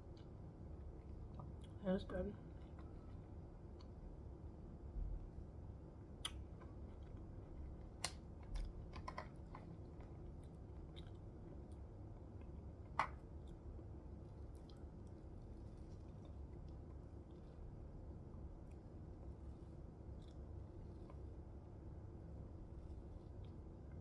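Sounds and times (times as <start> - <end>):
quiet chewing: 0.0 - 4.2, 5.2 - 24.0.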